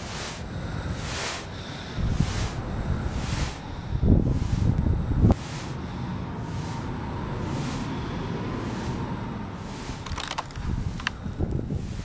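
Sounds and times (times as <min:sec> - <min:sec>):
hissing swish: 0:00.0 - 0:12.0
wind rumbling on microphone: 0:00.0 - 0:12.0.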